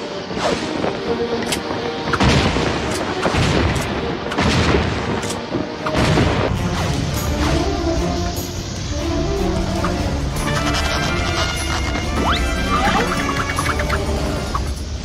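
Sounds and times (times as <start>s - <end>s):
orchestral music: 0.0s - 15.0s.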